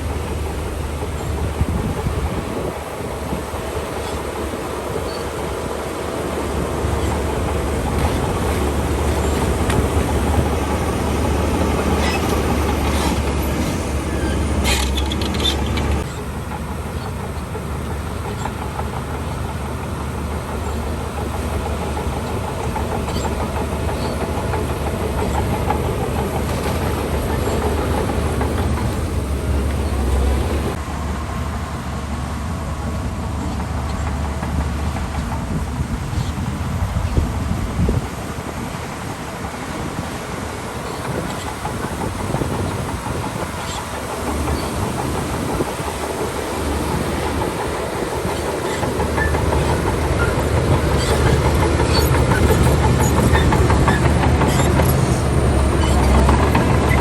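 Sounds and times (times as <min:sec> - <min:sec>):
bulldozer diesel engine under load: 0:00.0 - 0:57.0
steel tracks clattering: 0:00.0 - 0:57.0.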